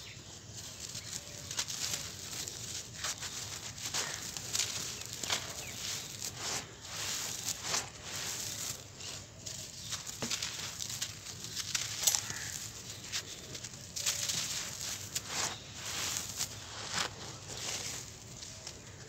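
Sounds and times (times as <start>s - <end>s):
cement lumps crunching: 0.0s - 19.0s
crumbs and dust falling: 0.2s - 19.0s.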